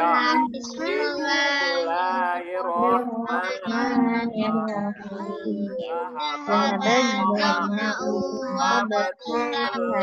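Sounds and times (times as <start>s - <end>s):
children chanting in unison: 0.0s - 10.0s.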